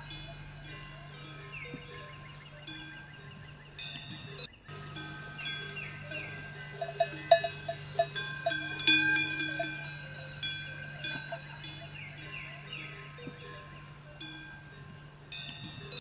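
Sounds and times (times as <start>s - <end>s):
falling bird chirps: 0.0s - 15.8s
bell-like ringing tones: 0.0s - 16.0s
low steady hum: 0.0s - 16.0s.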